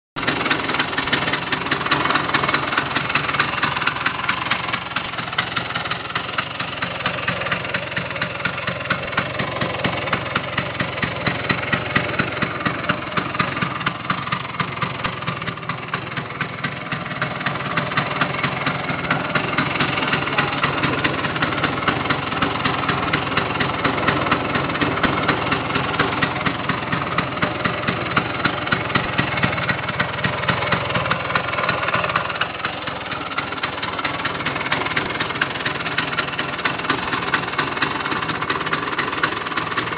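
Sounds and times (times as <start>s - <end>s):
scooter engine idling: 0.2s - 39.9s.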